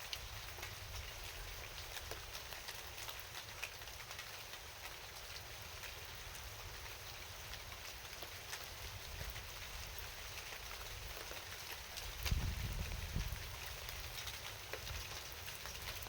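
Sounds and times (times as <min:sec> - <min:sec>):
rain falling: 0:00.0 - 0:16.0
raindrops ticking on surface: 0:00.0 - 0:16.0.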